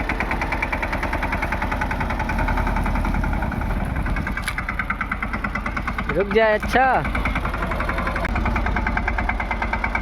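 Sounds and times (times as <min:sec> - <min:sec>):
small tractor engine running: 0:00.0 - 0:10.0.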